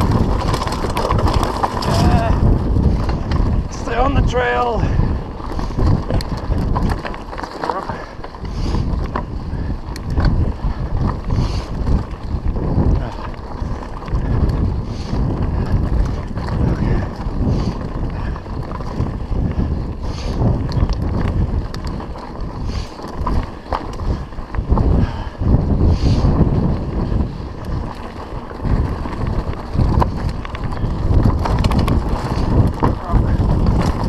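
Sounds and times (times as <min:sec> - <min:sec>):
bike rattling over stones: 0:00.0 - 0:34.0
bike tyres rumbling on dirt: 0:00.0 - 0:34.0
wind buffeting microphone: 0:00.0 - 0:34.0.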